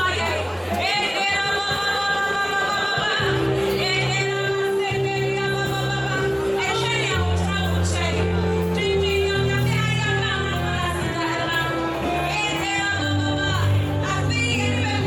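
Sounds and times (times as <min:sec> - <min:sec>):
worship music with singing: 0:00.0 - 0:15.0.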